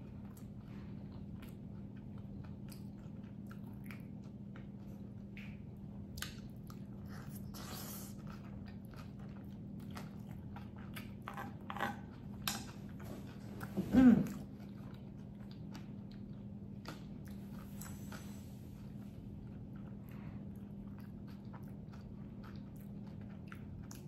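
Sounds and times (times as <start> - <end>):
person chewing food: 0.0 - 24.0
steady low hum: 0.0 - 24.0.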